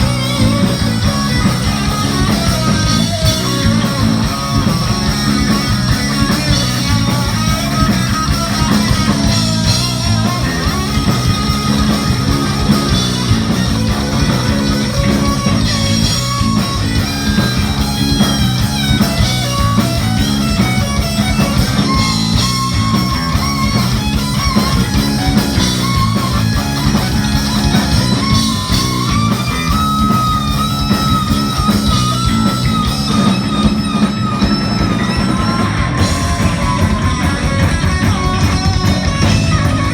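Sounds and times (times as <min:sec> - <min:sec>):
heavy metal music: 0:00.0 - 0:39.9.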